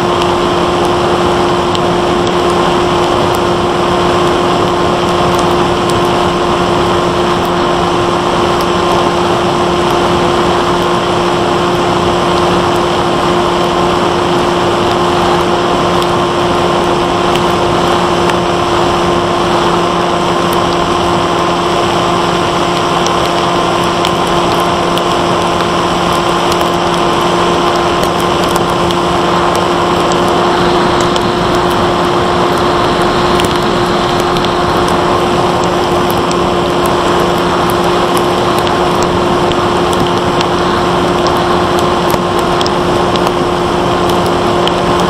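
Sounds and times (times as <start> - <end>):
air rushing: 0.0 - 45.0
model plane electric motor: 0.0 - 45.0.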